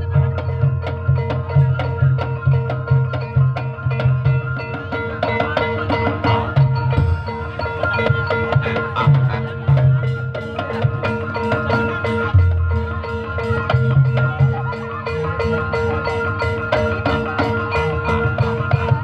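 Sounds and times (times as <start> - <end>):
tuned mallet percussion: 0.0 - 19.0.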